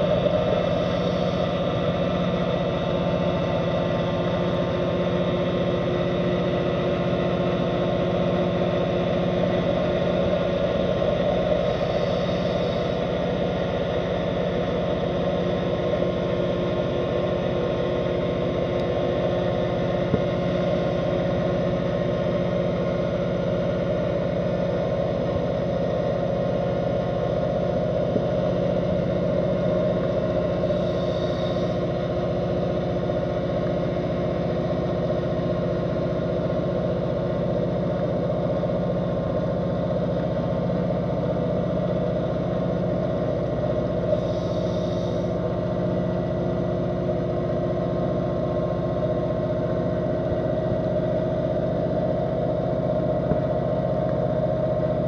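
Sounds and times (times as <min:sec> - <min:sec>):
underwater boat engine drone: 0:00.0 - 0:55.0.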